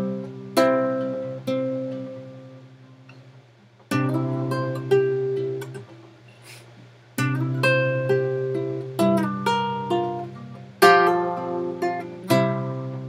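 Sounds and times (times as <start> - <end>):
acoustic guitar chords ringing: 0.0 - 3.1, 3.9 - 6.1, 7.2 - 13.0.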